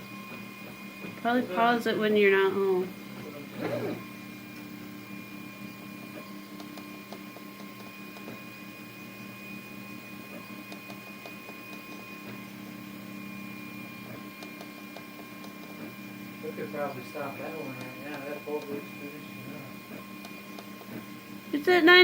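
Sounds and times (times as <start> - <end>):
printer motors and fans whining: 0.0 - 22.0.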